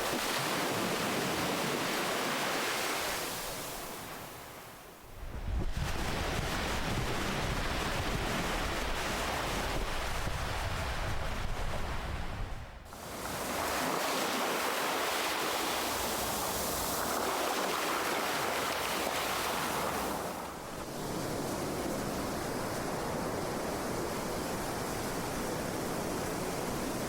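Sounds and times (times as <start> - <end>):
ocean waves breaking: 0.0 - 4.4, 5.7 - 26.4.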